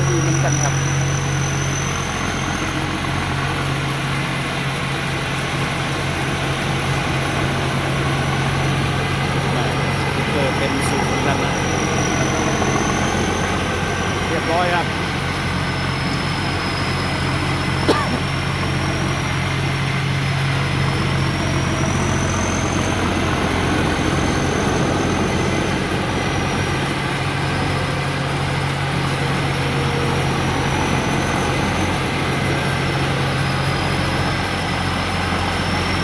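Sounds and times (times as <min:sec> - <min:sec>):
diesel engine running under load: 0:00.0 - 0:36.0
machine high whine: 0:00.0 - 0:36.0.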